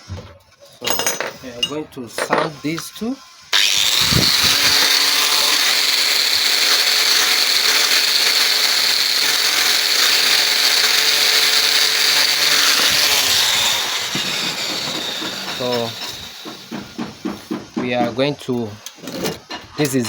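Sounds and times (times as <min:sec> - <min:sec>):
power tool sanding metal: 0:01.4 - 0:20.0.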